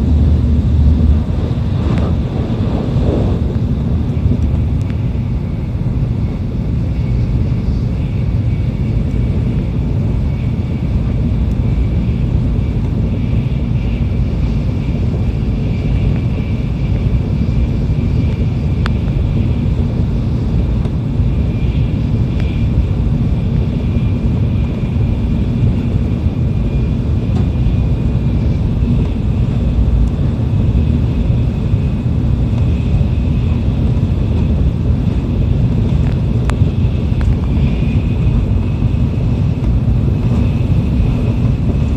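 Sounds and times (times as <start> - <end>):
faint high whine: 0.0 - 41.9
train wheel and air rumble: 0.0 - 41.9.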